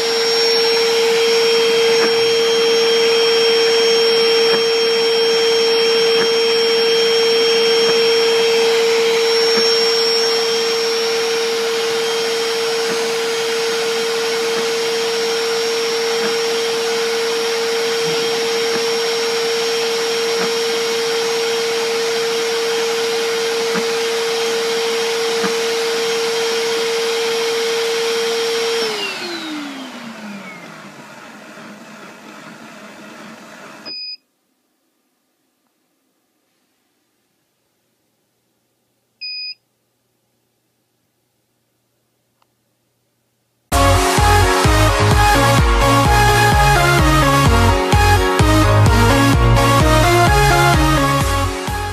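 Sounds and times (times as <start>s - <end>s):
cleaner motor whining: 0.0s - 33.9s, 43.7s - 51.9s.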